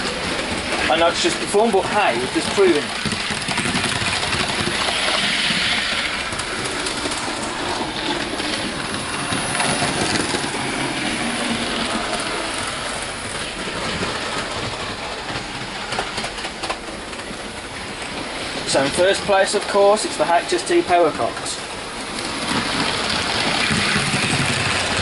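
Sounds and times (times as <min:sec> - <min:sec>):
model trains clattering on track: 0:00.0 - 0:25.0.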